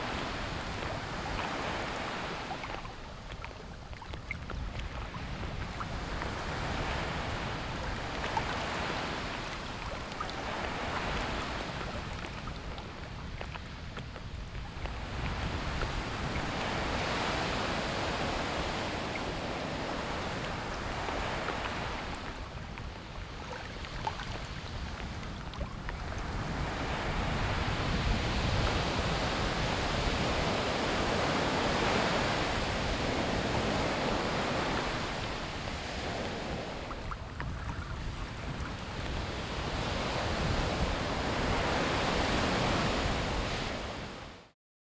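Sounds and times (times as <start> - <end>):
ocean waves breaking on beach: 0.0 - 44.6.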